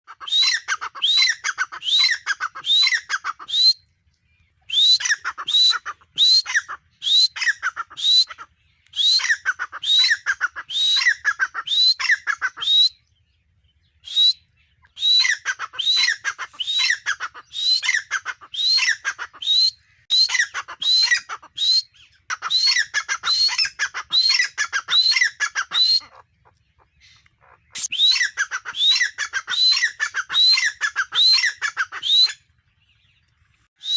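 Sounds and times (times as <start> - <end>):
bird calling shrill repeated notes: 0.1 - 3.9, 4.6 - 13.2, 13.9 - 26.3, 26.9 - 32.6, 33.7 - 33.9.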